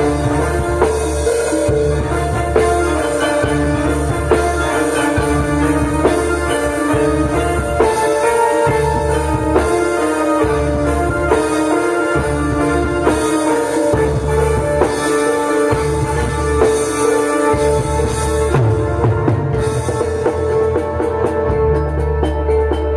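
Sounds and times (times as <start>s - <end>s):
drums: 0.0s - 22.9s
metallophones ringing: 0.0s - 22.9s.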